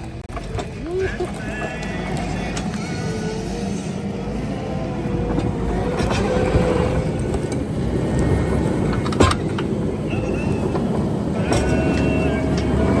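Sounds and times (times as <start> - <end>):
digging machine engine running: 0.0 - 13.0.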